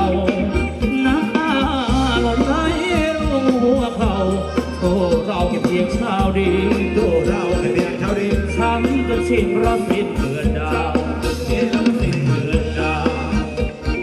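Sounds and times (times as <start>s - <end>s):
person singing melody: 0.0s - 14.0s
pulsing bass line: 0.0s - 14.0s.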